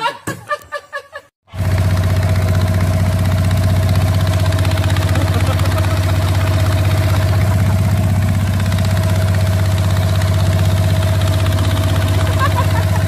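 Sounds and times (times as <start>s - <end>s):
boat motor running: 1.5s - 13.0s.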